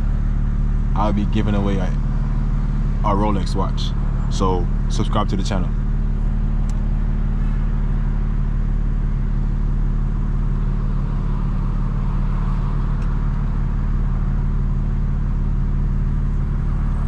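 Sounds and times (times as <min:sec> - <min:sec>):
car exhaust drone: 0:00.0 - 0:17.0
road noise: 0:00.0 - 0:17.0.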